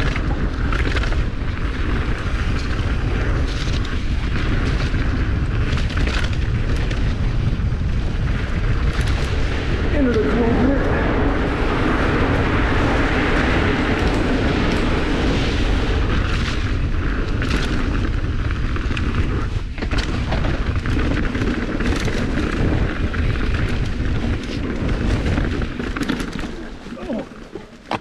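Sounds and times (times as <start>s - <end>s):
bike clattering over bumps: 0.0s - 28.0s
tyres rumbling on dirt: 0.0s - 28.0s
wind buffeting microphone: 0.0s - 28.0s.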